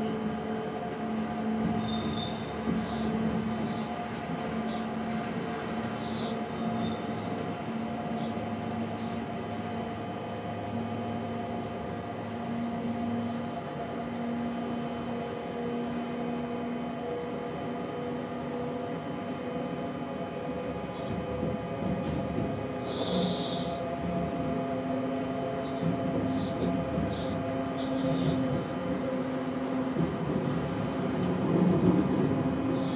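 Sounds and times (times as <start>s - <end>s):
electric train rumbling: 0.0s - 32.9s.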